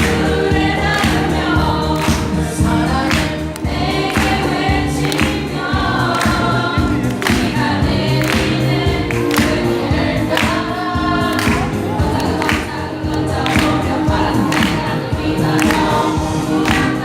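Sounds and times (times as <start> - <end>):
band accompaniment: 0.0 - 17.0
drum hits: 0.0 - 17.0
group singing pop ballad: 0.0 - 17.0.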